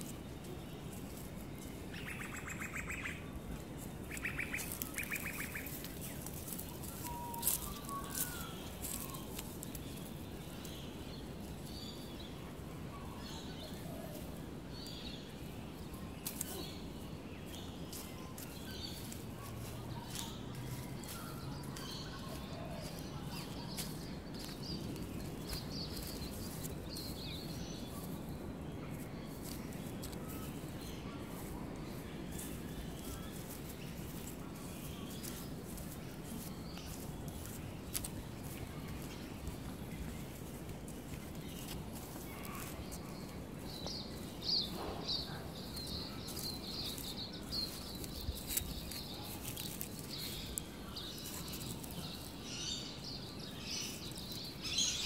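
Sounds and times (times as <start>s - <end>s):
birds chirping: 0.0s - 55.0s
outdoor background noise: 0.0s - 55.0s.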